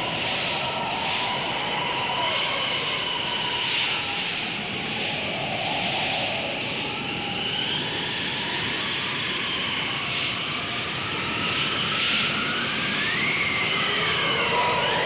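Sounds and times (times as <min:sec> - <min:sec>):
wind blowing and whistling: 0:00.0 - 0:15.0.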